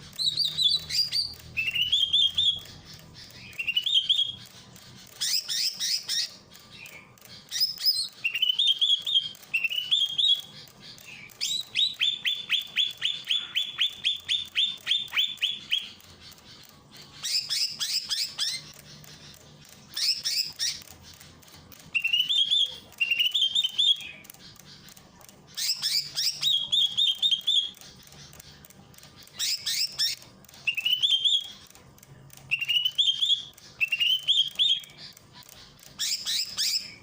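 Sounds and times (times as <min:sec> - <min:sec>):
bird singing sweeping notes and trills: 0:00.0 - 0:37.0.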